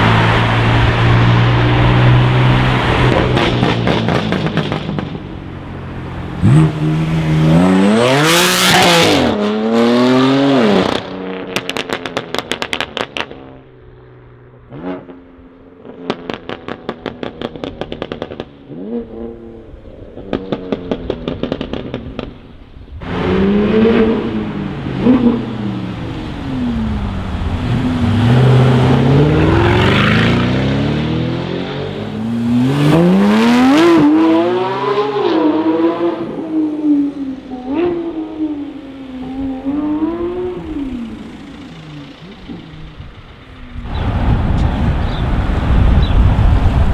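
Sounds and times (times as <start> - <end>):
sports car engines revving: 0.0 - 13.8, 14.6 - 46.2.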